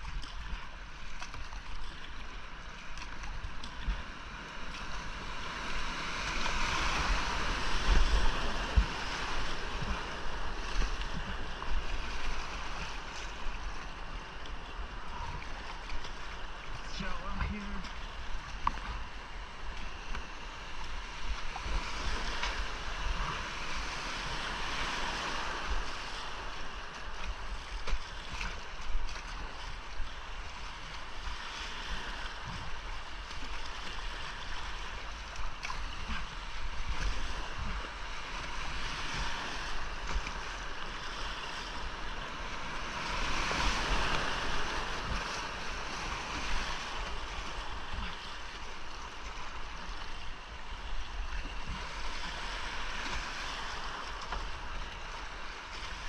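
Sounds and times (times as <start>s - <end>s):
wind rumble on microphone: 0.0s - 56.0s
rushing whitewater: 4.6s - 56.0s.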